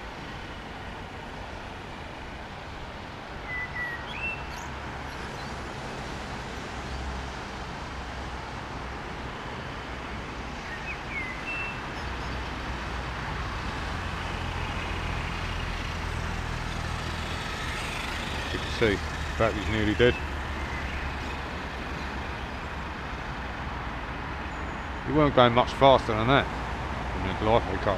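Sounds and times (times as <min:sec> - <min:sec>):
steady rushing outdoor noise: 0:00.0 - 0:27.9.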